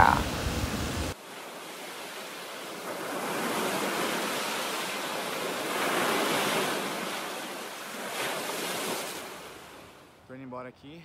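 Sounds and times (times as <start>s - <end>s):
ocean surf breaking: 0.0s - 10.1s.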